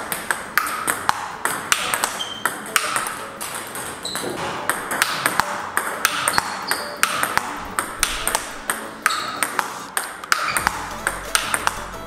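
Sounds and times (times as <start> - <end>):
ping pong ball bouncing on table: 0.0 - 11.9
ping pong ball hitting bats: 0.0 - 12.0.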